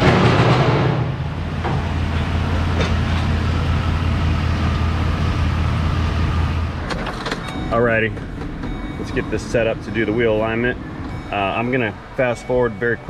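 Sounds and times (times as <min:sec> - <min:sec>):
van engine humming: 0:00.0 - 0:13.0.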